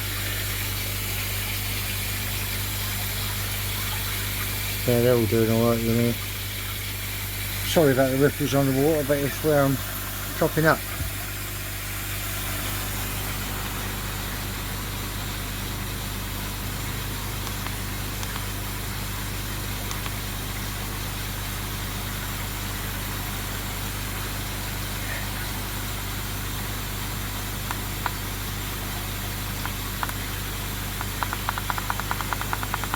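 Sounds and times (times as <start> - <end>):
pump humming: 0.0 - 32.9.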